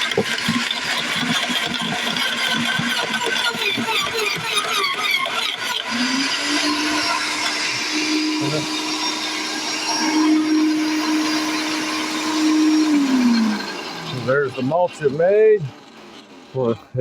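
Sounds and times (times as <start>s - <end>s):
wood chipper motor hum: 0.0s - 17.0s.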